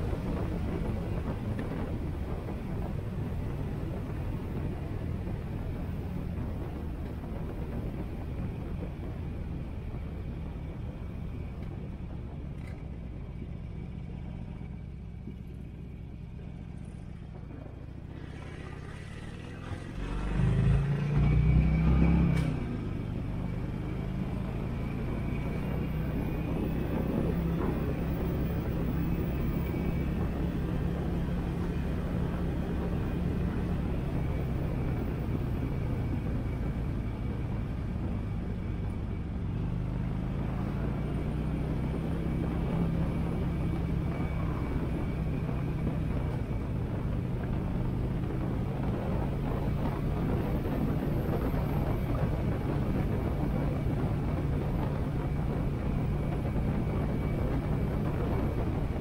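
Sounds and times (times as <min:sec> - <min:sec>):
wind noise on helmet: 0:00.0 - 0:13.6, 0:22.6 - 0:59.0.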